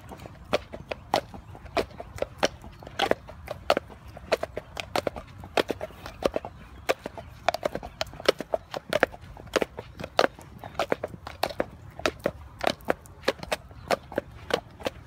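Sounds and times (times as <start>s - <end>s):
hooves clip-clopping on hard track: 0.0s - 15.0s.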